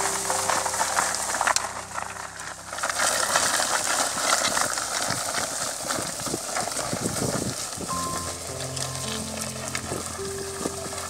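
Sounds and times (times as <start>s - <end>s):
harrow dragging over soil: 0.0s - 11.0s
hooves crunching on dry soil: 0.0s - 11.0s.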